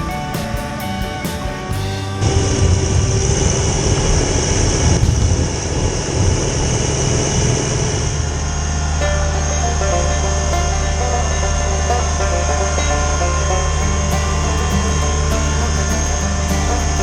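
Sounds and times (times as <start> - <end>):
tractor diesel engine running hard: 0.0 - 17.0.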